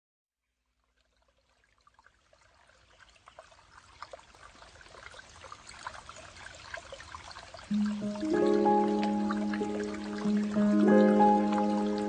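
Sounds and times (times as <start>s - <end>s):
shower water pattering: 0.9s - 12.0s.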